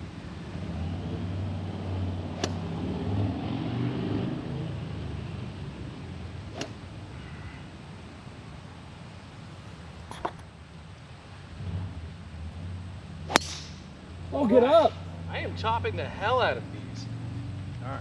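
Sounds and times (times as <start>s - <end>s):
passing vehicle rumble: 0.0s - 8.1s, 11.2s - 18.0s.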